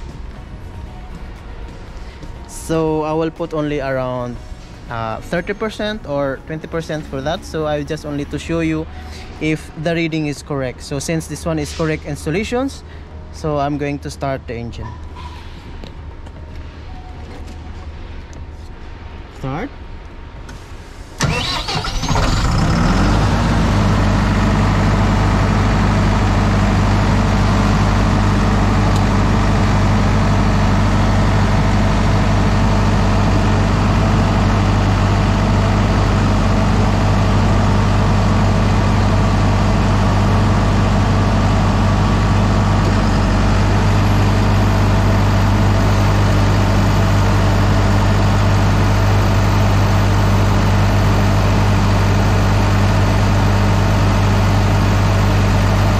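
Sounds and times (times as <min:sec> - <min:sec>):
diesel generator humming: 0:00.0 - 0:55.9.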